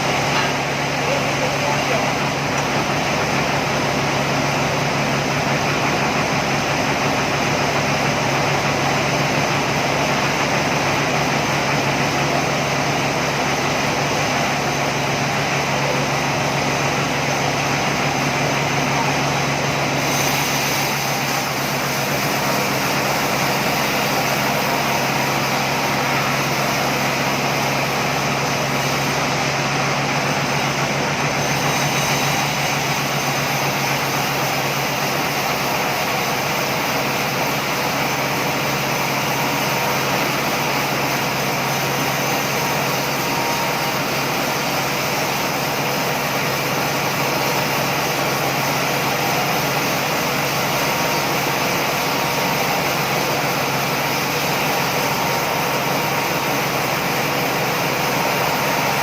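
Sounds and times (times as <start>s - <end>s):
sawmill machinery droning: 0.0s - 59.0s.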